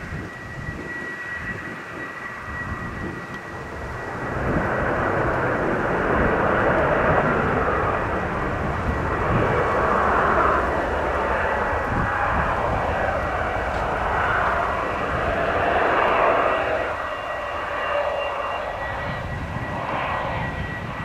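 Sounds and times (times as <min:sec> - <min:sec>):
jet engines in reverse thrust: 0:00.0 - 0:21.0
thin high whine: 0:00.2 - 0:21.0.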